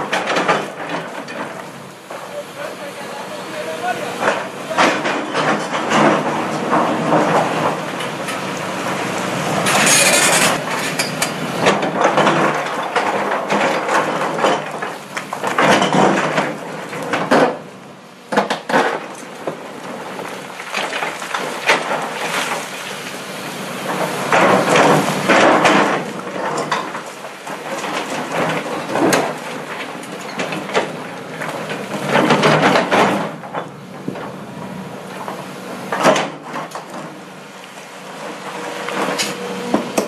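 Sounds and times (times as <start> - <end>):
excavator engine hum: 0.0 - 40.0.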